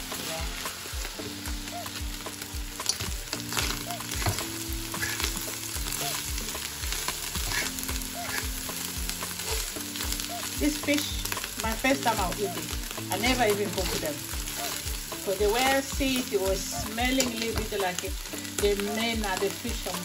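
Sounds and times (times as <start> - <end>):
afrobeat music: 0.0 - 20.0
fish sizzling in oil: 0.0 - 20.0.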